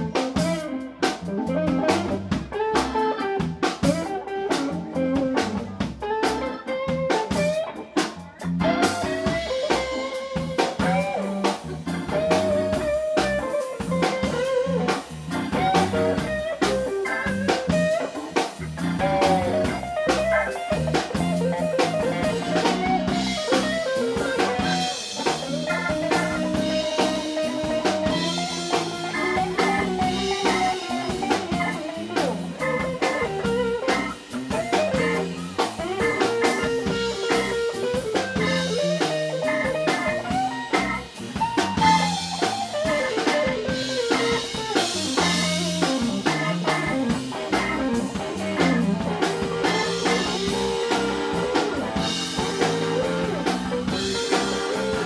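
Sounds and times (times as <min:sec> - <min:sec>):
live band playing: 0:00.0 - 0:55.0
organ lead melody: 0:00.0 - 0:55.0.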